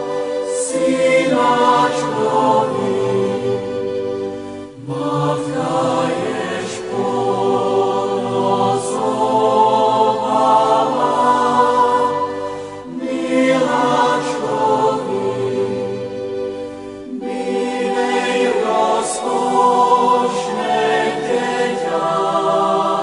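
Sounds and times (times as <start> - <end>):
choral singing: 0.0 - 23.0.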